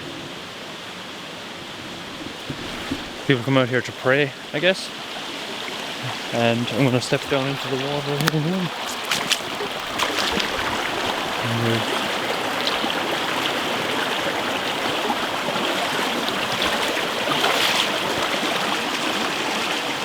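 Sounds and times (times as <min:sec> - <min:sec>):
stream rushing and splashing: 0:00.0 - 0:20.0.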